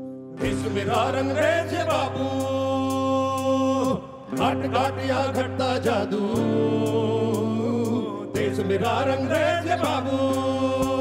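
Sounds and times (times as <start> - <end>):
electric bass guitar: 0.0 - 11.0
drums: 0.4 - 11.0
man singing: 0.4 - 11.0.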